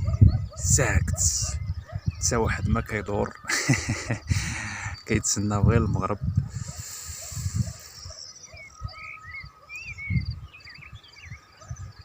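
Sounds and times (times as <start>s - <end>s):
small birds calling: 0.0s - 12.0s.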